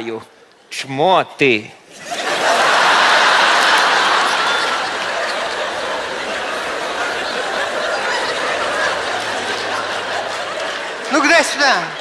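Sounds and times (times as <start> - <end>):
studio audience laughing: 2.0 - 11.7.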